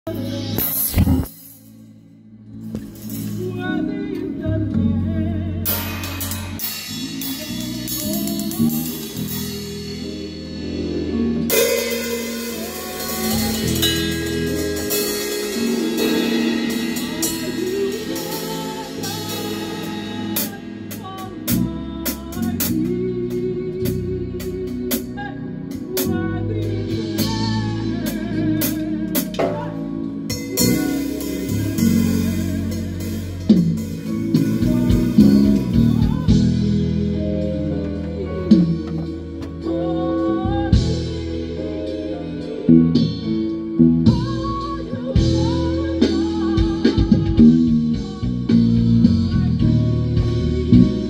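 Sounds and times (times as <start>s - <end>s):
person singing: 0.0s - 1.3s, 2.8s - 51.0s
bass guitar: 0.0s - 51.0s
drum kit with cymbals: 0.0s - 51.0s
guitar: 0.0s - 51.0s.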